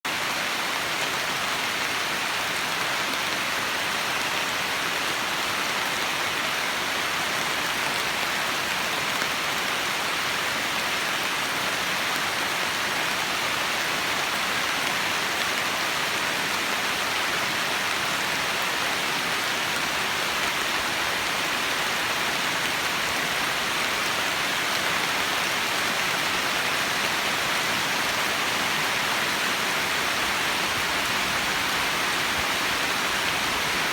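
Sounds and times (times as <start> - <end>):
heavy rain downpour: 0.0 - 33.9.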